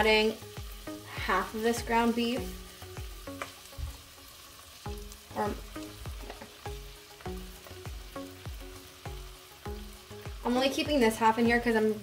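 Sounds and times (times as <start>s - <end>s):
ground beef sizzling: 0.0s - 12.0s
light music with plucked notes: 0.0s - 12.0s.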